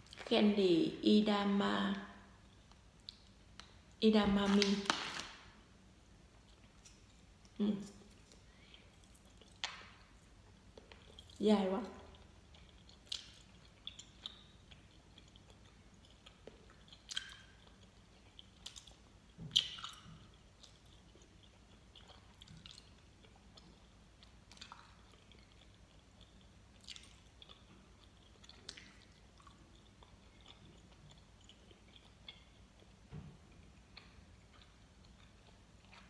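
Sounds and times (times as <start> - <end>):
person chewing gummy candy: 6.4 - 11.4, 12.0 - 36.0.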